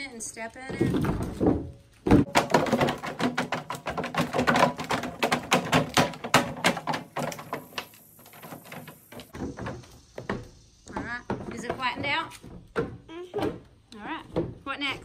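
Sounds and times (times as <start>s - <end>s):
bare feet stomping in plastic pool: 0.7s - 15.0s.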